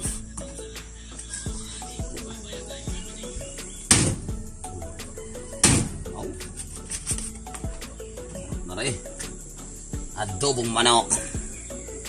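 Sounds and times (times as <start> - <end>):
plucked melody over a beat: 0.0 - 12.0.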